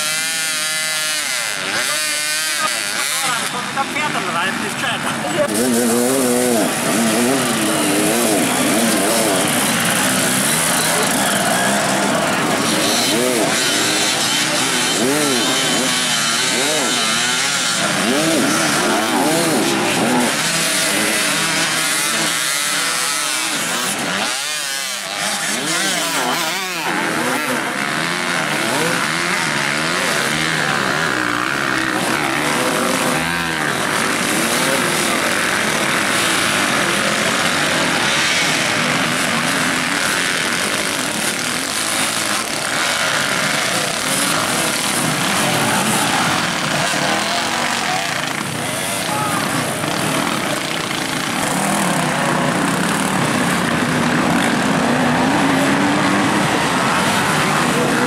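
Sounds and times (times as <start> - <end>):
dirtbike engines revving: 0.0 - 58.0.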